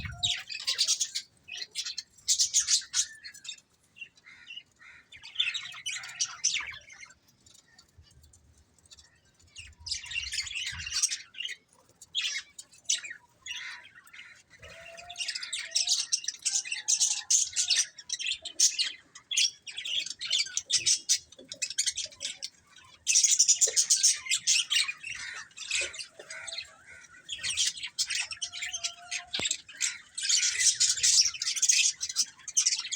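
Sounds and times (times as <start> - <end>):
budgerigars chirping and chattering: 0.0 - 8.2, 9.0 - 32.9.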